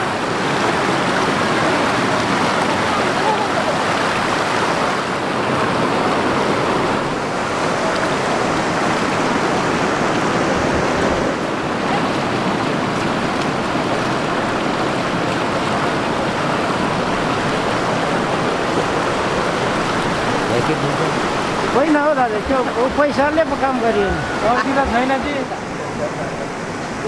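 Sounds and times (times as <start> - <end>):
running water rushing: 0.0 - 27.0.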